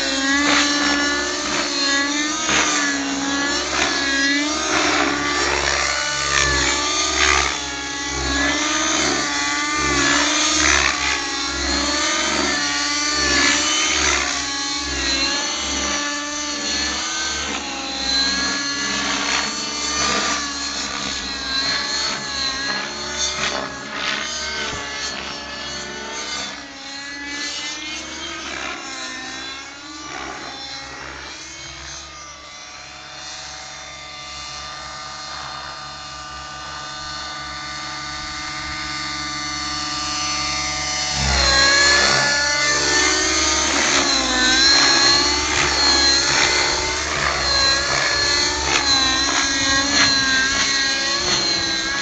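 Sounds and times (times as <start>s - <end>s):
model helicopter engine and rotor whine: 0.0s - 52.0s.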